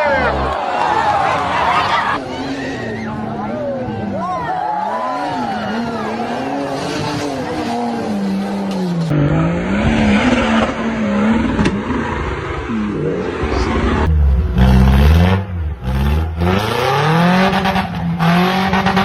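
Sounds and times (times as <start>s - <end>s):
deep heavy engine rumble: 0.0s - 18.3s
off-road engines revving: 0.0s - 19.0s.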